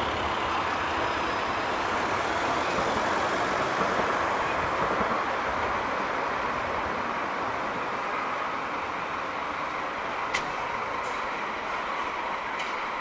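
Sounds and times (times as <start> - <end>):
road and traffic noise: 0.0 - 13.0.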